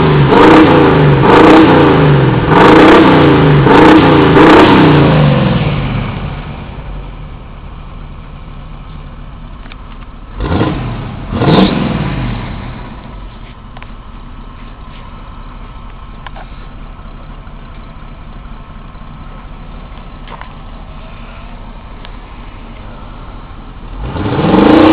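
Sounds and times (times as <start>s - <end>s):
van engine idling and revving: 0.0s - 24.9s.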